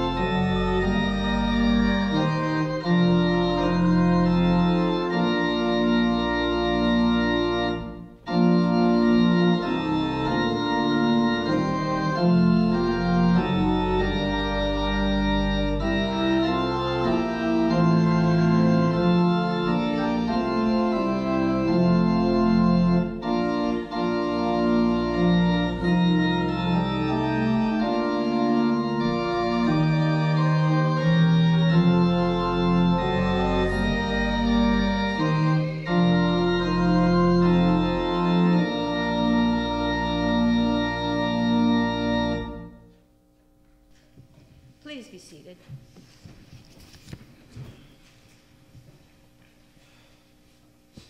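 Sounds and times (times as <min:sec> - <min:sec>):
church organ playing hymn: 0:00.0 - 0:44.0.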